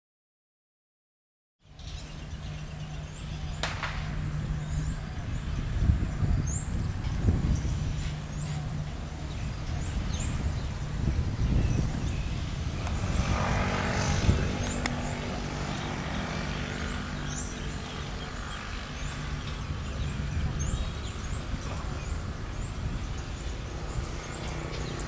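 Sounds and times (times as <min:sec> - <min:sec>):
low outdoor rumble: 0:01.6 - 0:25.0
motor-like hum: 0:01.6 - 0:25.0.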